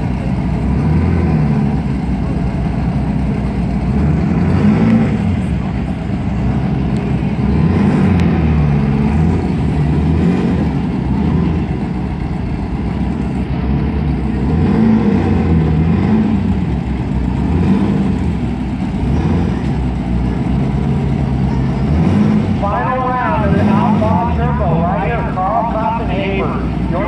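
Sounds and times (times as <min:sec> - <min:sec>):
drag car engines revving at idle: 0:00.0 - 0:27.0.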